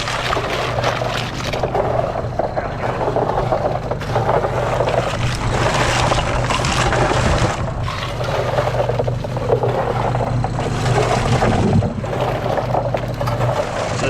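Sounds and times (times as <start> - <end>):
engine running: 0.0 - 14.0
rattling and scraping clatter: 0.0 - 14.0.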